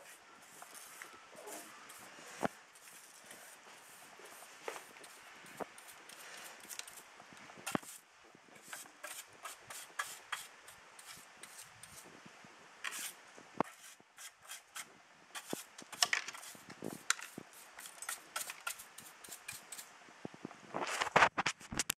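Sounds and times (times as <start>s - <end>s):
brush swishing on hard surface: 0.0s - 7.0s, 7.6s - 8.0s, 8.6s - 12.1s, 12.9s - 19.9s.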